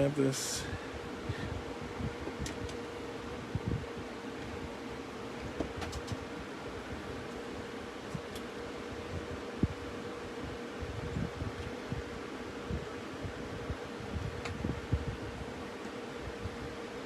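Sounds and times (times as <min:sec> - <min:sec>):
fan hum: 0:00.0 - 0:17.0.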